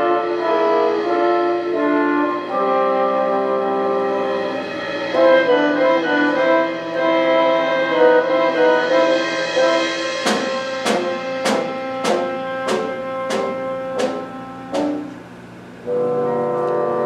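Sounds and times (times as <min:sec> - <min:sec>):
drum-like strikes: 0:00.0 - 0:15.6
orchestra playing: 0:00.0 - 0:17.0.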